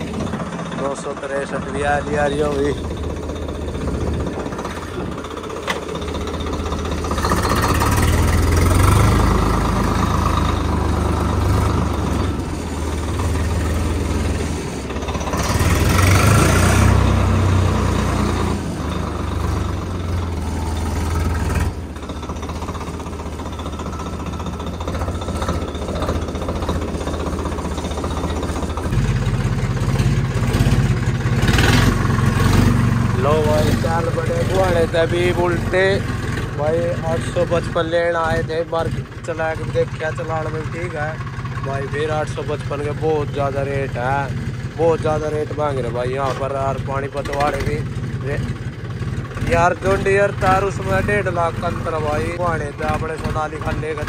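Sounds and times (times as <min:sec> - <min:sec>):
deeper tractor engine: 0:00.0 - 0:54.0
tractor diesel engine running: 0:00.0 - 0:54.0.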